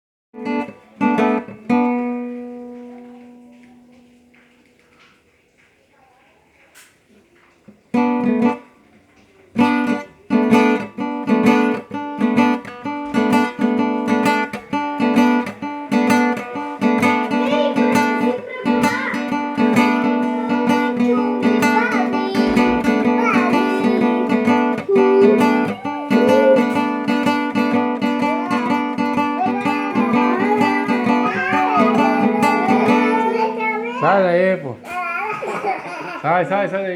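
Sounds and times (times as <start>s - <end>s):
acoustic guitar strumming: 0.4s - 4.5s, 7.9s - 8.8s, 9.5s - 36.7s.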